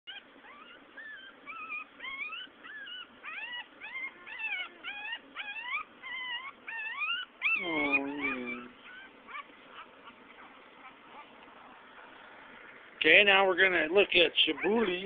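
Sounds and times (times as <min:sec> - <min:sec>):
puppies whining: 0:00.1 - 0:15.0.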